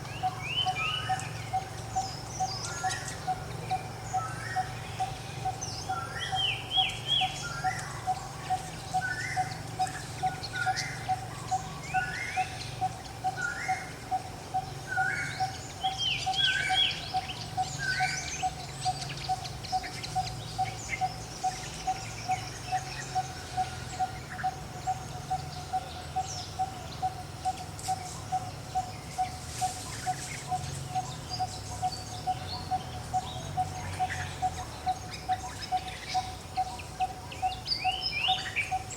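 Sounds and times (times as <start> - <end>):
birds chirping: 0.0 - 38.9
low steady hum: 0.0 - 38.9
pulsing animal call: 0.2 - 38.9.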